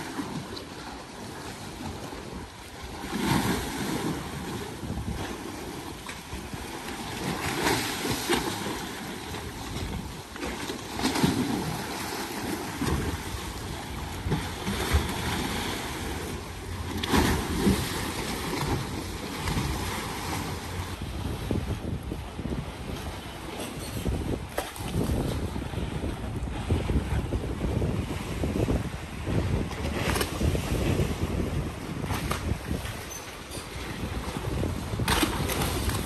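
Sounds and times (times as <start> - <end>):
wind on microphone: 0.0 - 36.0.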